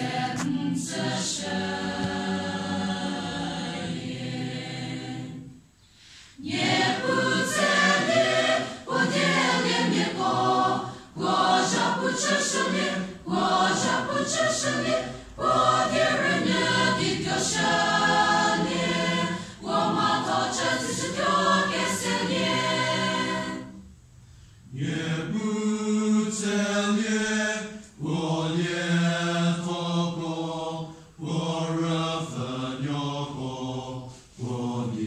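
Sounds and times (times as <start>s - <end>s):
mixed choir singing: 0.0s - 5.8s, 6.4s - 23.9s, 24.7s - 35.0s
choir breath: 0.0s - 25.3s, 27.6s - 35.0s.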